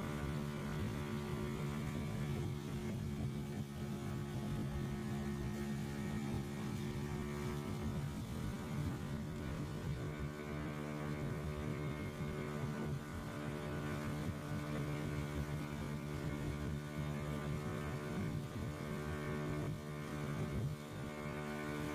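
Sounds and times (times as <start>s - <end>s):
boat engines humming: 0.0s - 21.9s.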